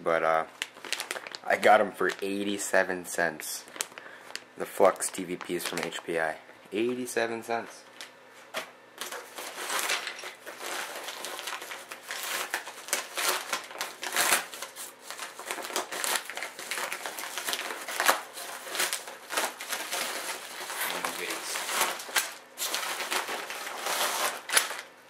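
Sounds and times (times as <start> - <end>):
plastic packaging crinkling: 0.2 - 2.8, 3.4 - 7.0, 9.0 - 25.0.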